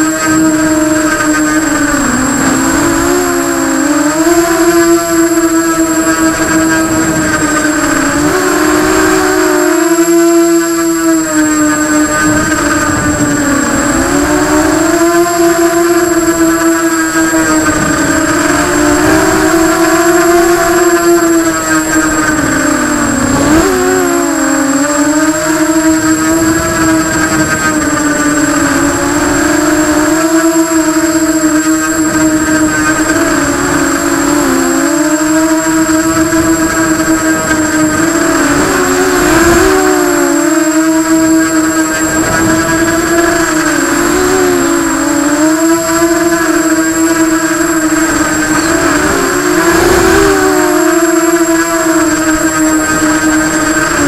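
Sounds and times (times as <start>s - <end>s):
quadcopter motors whining: 0.0s - 54.0s.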